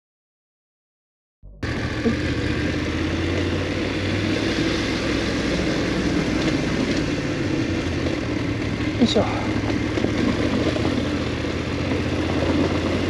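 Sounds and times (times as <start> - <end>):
motorcycle engine running at low revs: 1.5 - 13.0
constant rushing noise: 1.6 - 13.0.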